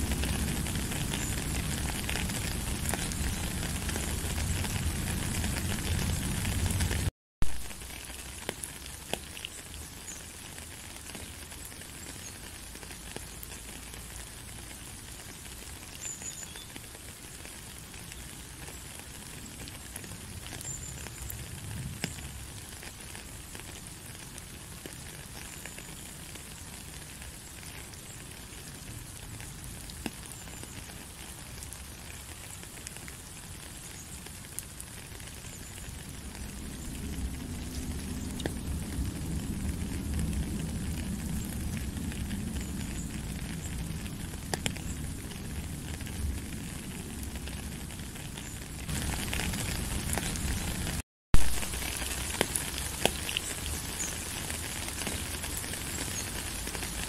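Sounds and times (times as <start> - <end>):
rain hissing: 0.0 - 57.0
raindrop ticks: 0.0 - 57.0.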